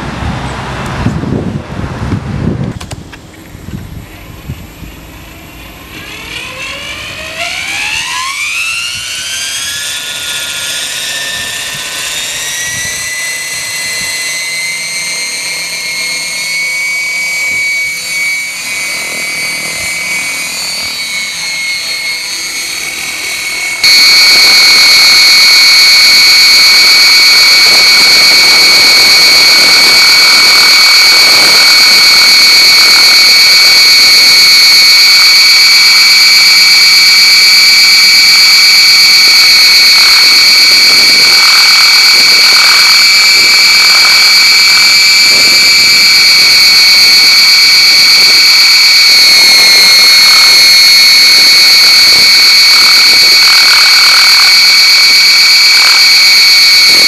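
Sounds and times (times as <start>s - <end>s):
model helicopter rotor whine: 2.8s - 57.0s.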